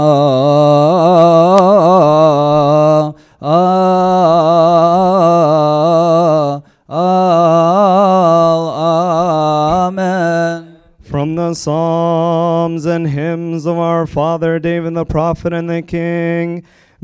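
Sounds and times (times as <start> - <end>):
man chanting: 0.0 - 16.6.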